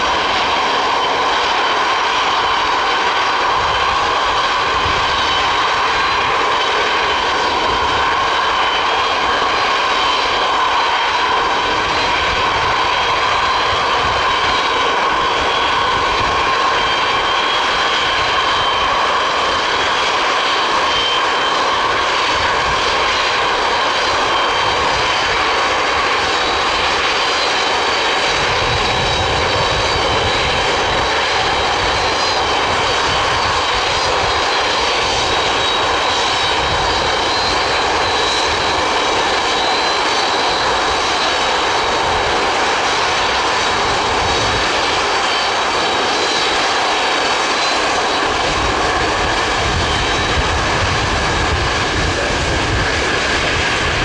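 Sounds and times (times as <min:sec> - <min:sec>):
high turbine whine: 0:00.0 - 0:54.0
jet engines roaring: 0:00.0 - 0:54.0.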